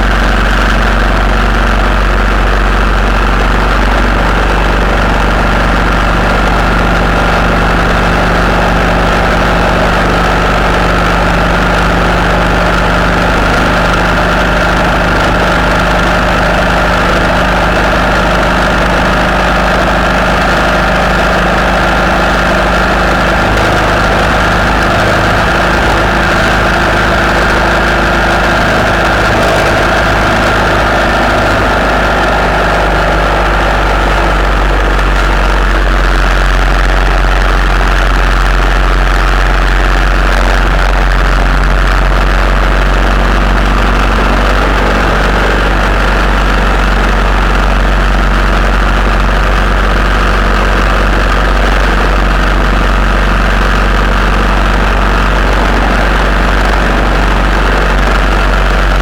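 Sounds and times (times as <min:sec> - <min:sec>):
high-pitched whine: 0:00.0 - 0:59.0
vehicle engine and road noise: 0:00.0 - 0:59.0.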